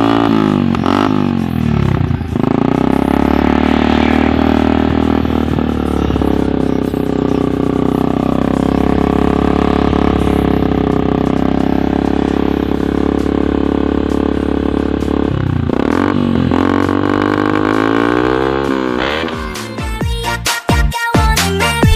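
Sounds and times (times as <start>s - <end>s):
motorcycle engine running: 0.0s - 20.3s.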